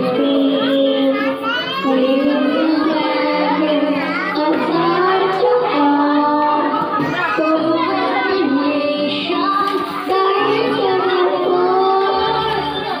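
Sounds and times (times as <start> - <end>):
girl singing into a microphone: 0.0 - 13.0
music backing track: 0.0 - 13.0.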